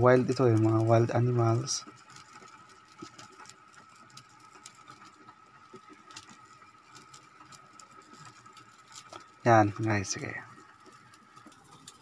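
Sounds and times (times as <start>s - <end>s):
broth boiling with bubbling pops: 0.0s - 12.0s.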